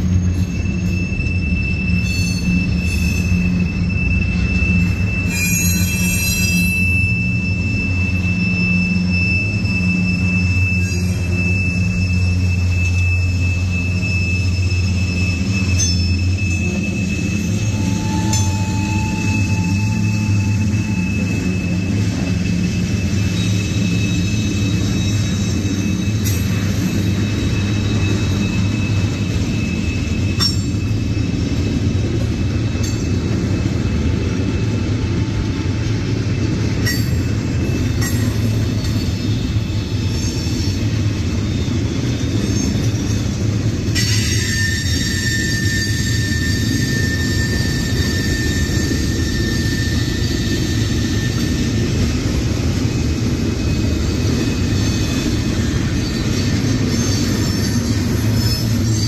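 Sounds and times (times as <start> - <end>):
high wheel squeal: 0.0 - 59.0
train wheels rumbling on rail: 0.0 - 59.0.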